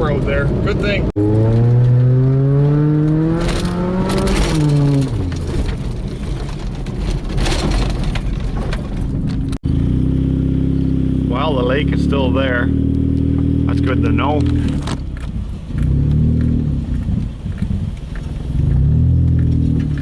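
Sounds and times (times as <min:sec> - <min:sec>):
car engine revving: 0:00.0 - 0:08.2, 0:09.4 - 0:20.0
road noise: 0:00.0 - 0:20.0.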